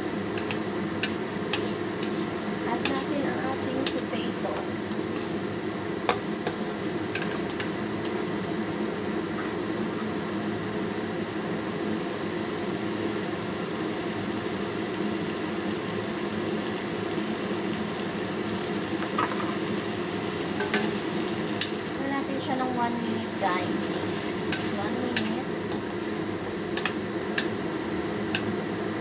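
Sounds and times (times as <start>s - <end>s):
stovetop hum: 0.0s - 29.0s.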